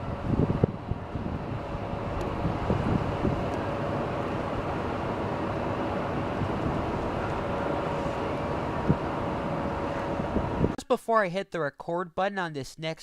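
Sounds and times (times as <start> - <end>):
rail vehicle rumble: 0.0 - 10.8
steady whine: 0.0 - 10.8.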